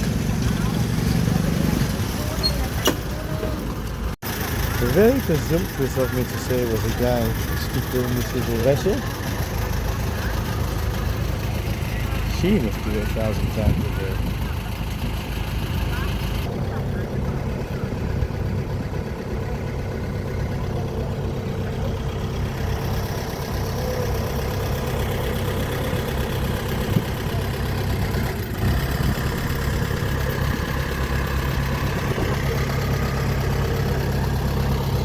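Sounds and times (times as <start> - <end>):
engine droning: 0.0 - 35.0.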